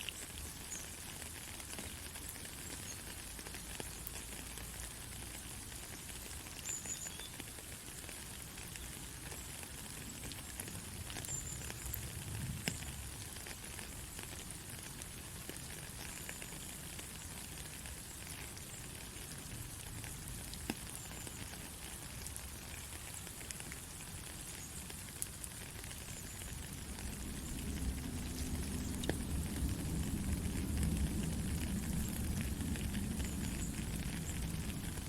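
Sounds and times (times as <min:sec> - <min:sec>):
light rain hiss: 0:00.0 - 0:35.0
sharp raindrop ticks: 0:00.0 - 0:35.0.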